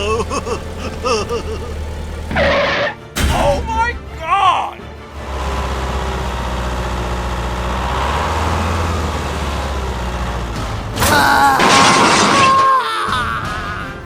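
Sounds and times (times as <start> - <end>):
engine-like rumble: 0.0 - 12.4.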